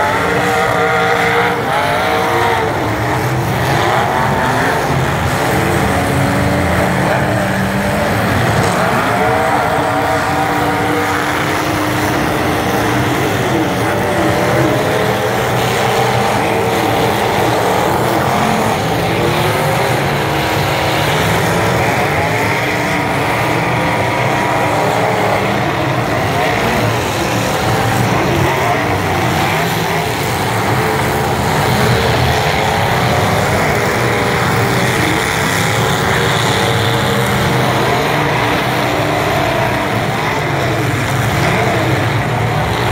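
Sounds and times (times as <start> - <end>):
truck engines revving: 0.0 - 42.9.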